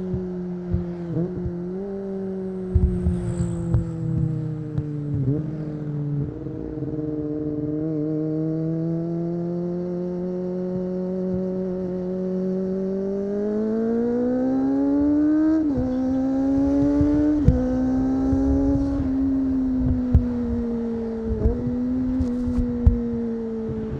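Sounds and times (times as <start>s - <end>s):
motorcycle engine accelerating: 0.0s - 23.9s
motorcycle upshifts: 0.0s - 23.9s.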